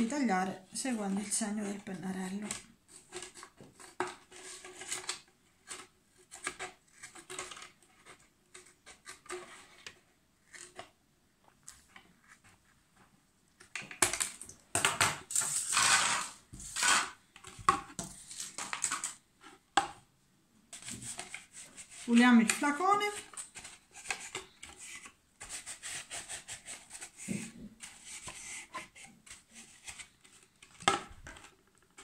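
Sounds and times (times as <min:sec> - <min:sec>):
plastic crackling and rustling: 0:00.8 - 0:12.7, 0:13.6 - 0:19.6, 0:20.7 - 0:32.0.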